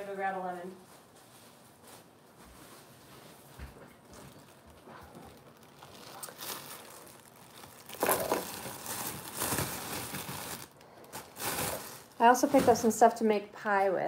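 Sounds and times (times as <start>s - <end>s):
plastic bag crinkling: 0.2s - 13.0s.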